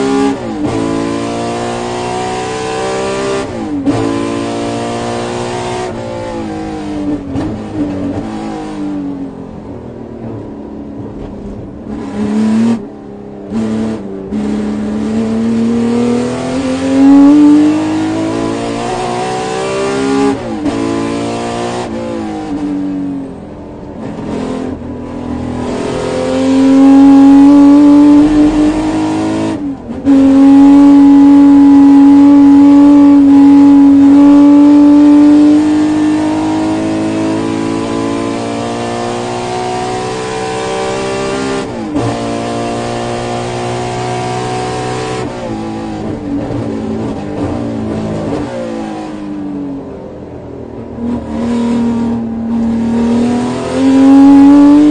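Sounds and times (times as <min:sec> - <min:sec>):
race car engine revving: 0:00.0 - 0:09.0, 0:11.0 - 0:54.9.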